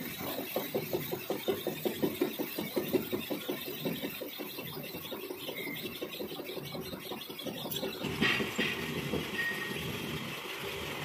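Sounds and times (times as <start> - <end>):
lathe running with steady pulsing: 0.0 - 11.0.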